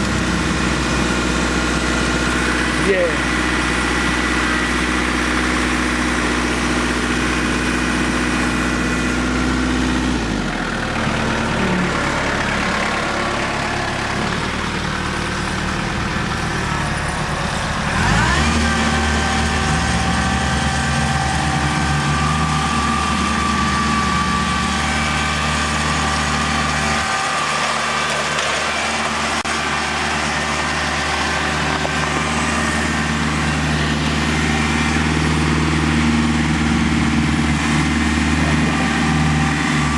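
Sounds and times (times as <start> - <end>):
diesel tractor engine running: 0.0 - 39.9
jeep engine running: 0.0 - 39.9.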